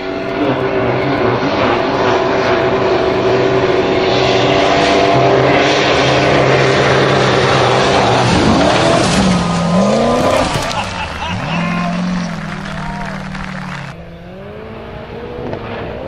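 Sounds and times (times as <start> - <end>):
buggy engine at high revs: 0.0 - 16.0.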